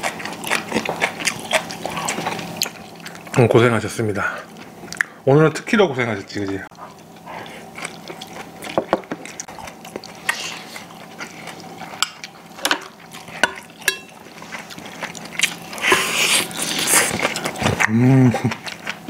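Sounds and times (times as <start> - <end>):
soft chewing: 0.0 - 3.6, 4.3 - 5.2, 6.4 - 19.0.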